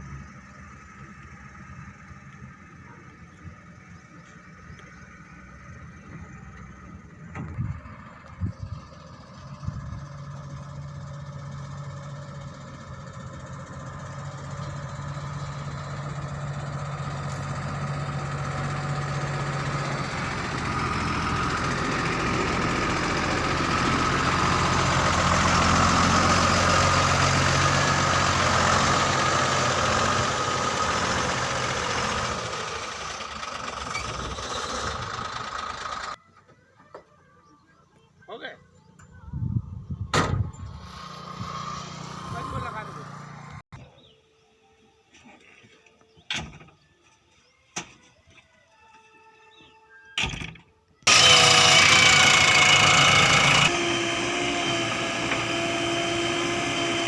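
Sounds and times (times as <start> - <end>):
heavy diesel engine under load: 0.0 - 36.2, 39.9 - 43.7, 51.0 - 57.0.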